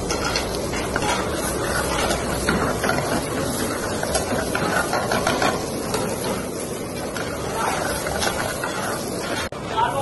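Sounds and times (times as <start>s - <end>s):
metal ladle scraping a pan: 0.0s - 9.5s
food frying in a pan: 0.0s - 9.6s.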